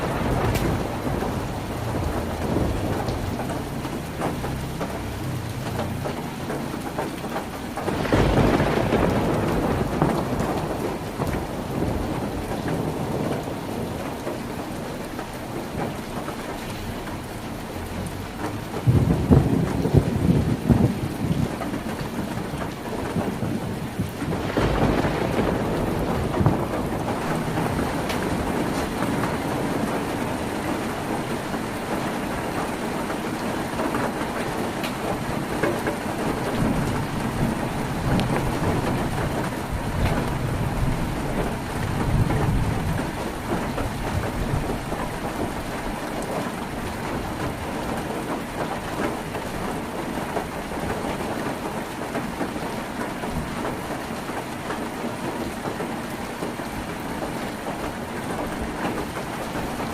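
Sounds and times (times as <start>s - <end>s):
heavy rain on a tin roof: 0.0s - 59.9s
low thunder rumbles: 0.0s - 59.9s.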